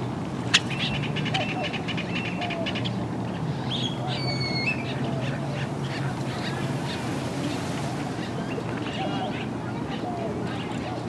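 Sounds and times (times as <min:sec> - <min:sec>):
birds calling: 0:00.4 - 0:11.0.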